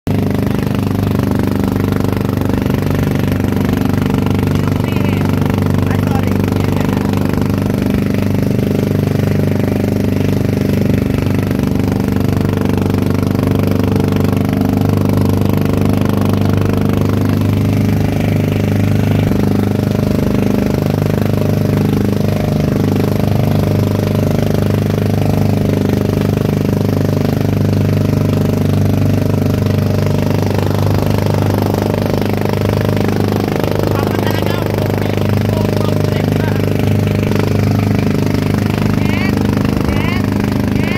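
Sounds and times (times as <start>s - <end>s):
boat engine droning: 0.1s - 40.9s.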